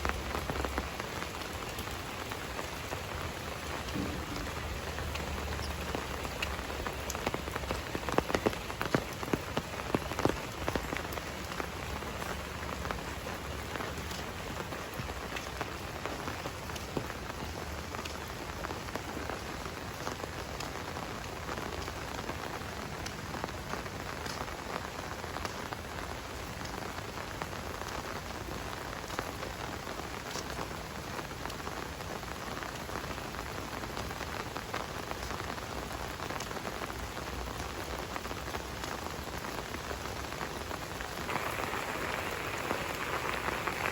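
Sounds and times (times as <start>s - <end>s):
rain pattering on a surface: 0.0s - 43.9s.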